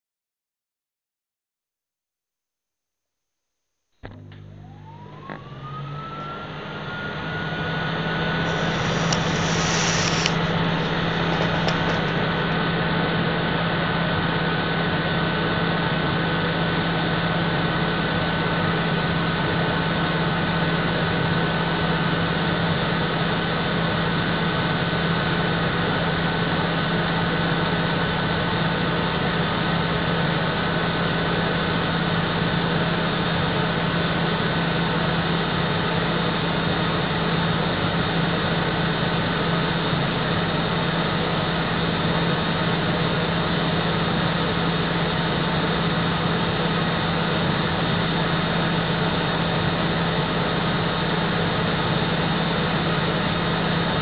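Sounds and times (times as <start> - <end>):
vacuum cleaner running: 4.0 - 25.6, 28.2 - 54.0.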